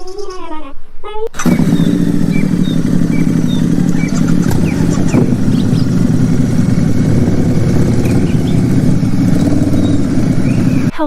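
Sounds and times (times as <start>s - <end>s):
idling motor drone: 1.4s - 10.9s.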